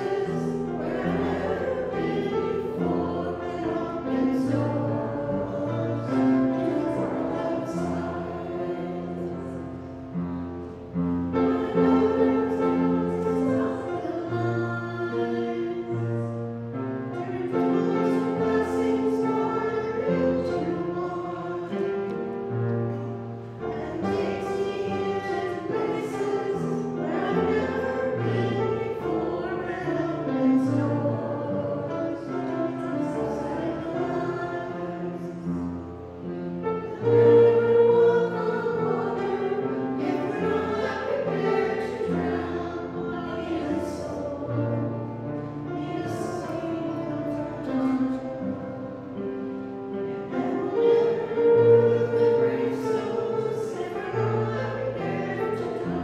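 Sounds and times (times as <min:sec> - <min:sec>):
group singing a hymn: 0:00.0 - 0:56.0.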